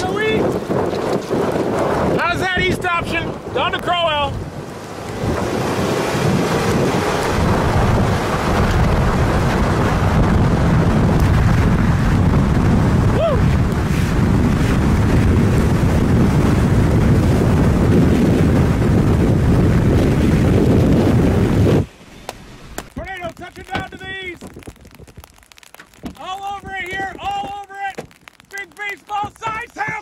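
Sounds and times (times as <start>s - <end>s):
strong wind buffeting microphone: 0.0s - 28.2s, 28.8s - 30.0s.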